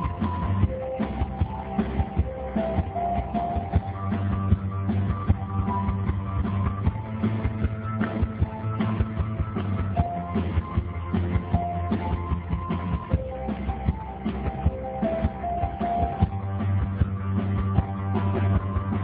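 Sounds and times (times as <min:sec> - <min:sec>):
bass: 0:00.0 - 0:19.0
steady drum beat: 0:00.0 - 0:19.0
synthesizer melody: 0:00.0 - 0:19.0.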